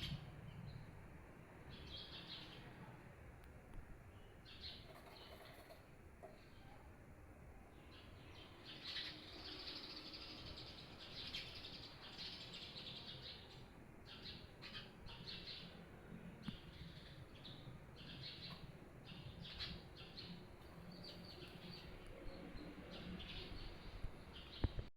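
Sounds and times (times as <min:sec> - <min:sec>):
small birds chirping: 0:00.0 - 0:00.9, 0:01.6 - 0:03.0, 0:04.1 - 0:06.9, 0:07.7 - 0:24.9.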